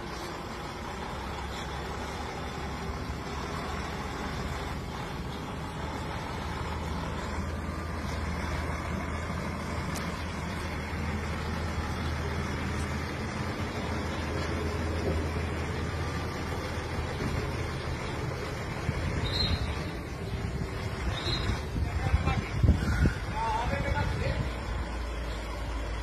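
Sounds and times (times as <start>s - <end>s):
lorry diesel engine rumbling: 0.0s - 26.0s.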